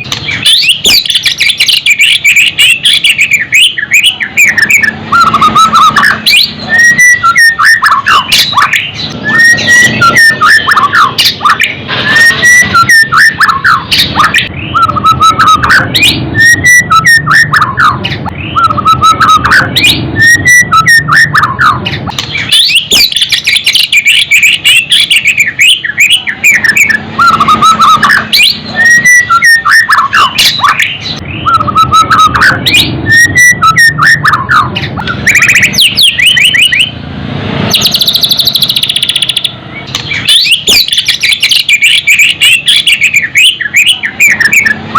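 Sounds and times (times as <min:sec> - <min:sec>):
bird whistled song: 0:00.0 - 0:37.0, 0:37.7 - 0:44.9.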